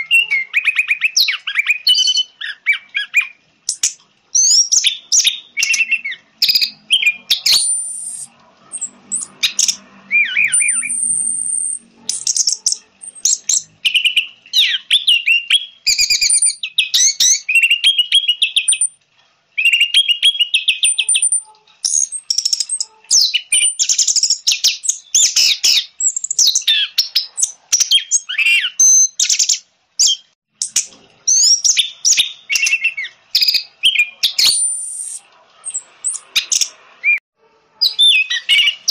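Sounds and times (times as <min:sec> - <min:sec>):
thrush singing whistles and trills: 0:00.0 - 0:19.0, 0:19.6 - 0:37.2, 0:37.8 - 0:38.9.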